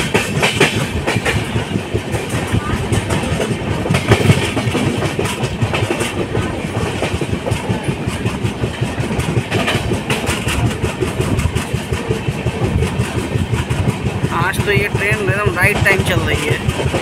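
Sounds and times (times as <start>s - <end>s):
train rumble inside coach: 0.0s - 17.0s
wheels clattering on track: 0.0s - 17.0s.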